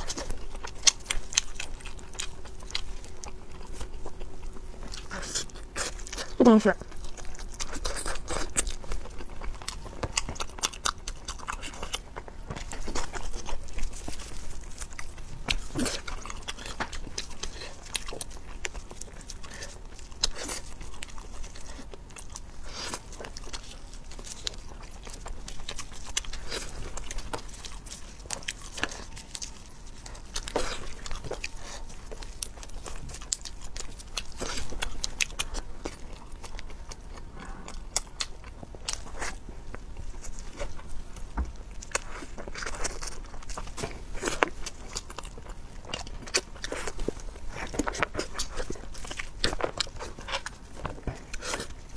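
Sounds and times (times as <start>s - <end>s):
person chewing shellfish: 0.0s - 51.9s.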